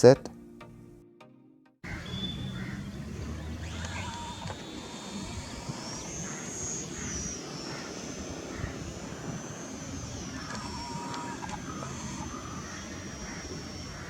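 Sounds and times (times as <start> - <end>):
electric motor and propeller whining: 1.8 - 14.0.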